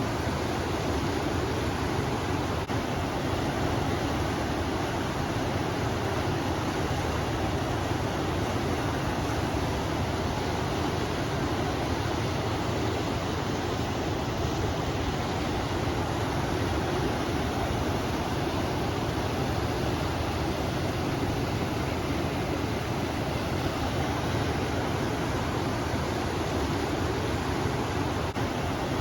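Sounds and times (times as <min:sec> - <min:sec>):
river water rushing: 0:00.0 - 0:29.0
wind: 0:00.0 - 0:29.0.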